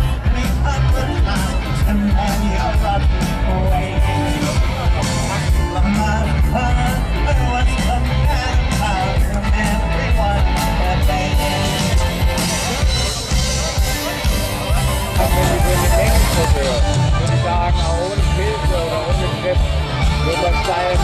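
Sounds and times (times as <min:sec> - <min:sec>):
rock music with singer: 0:00.0 - 0:21.0.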